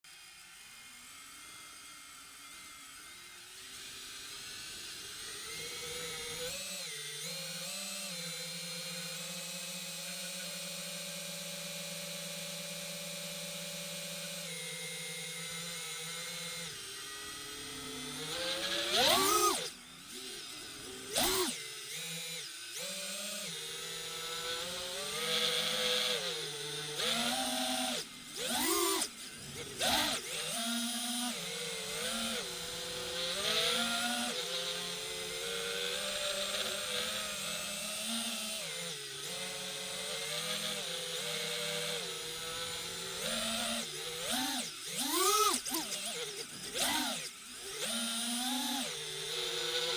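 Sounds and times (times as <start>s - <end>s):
drone motors whining: 2.4s - 49.9s.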